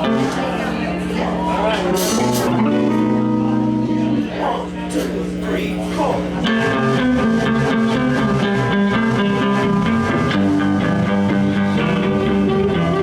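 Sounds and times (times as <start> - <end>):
blues band playing: 0.0 - 5.5, 6.2 - 13.0.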